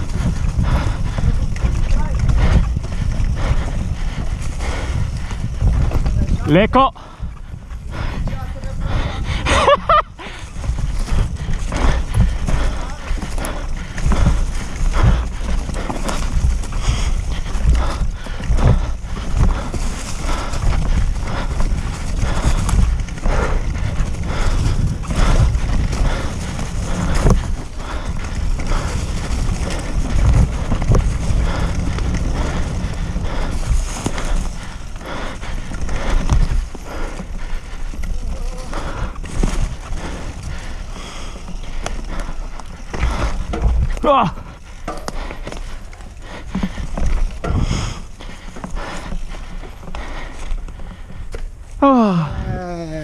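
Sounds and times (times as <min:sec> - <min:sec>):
mountain bike rattling and thudding: 0:00.0 - 0:53.0
tyres rumbling on dirt: 0:00.0 - 0:53.0
wind buffeting microphone: 0:00.0 - 0:53.0.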